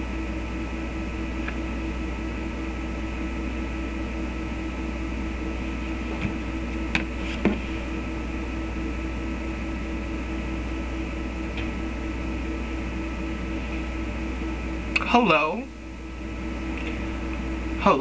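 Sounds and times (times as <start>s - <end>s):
room hum and hiss: 0.0s - 18.0s.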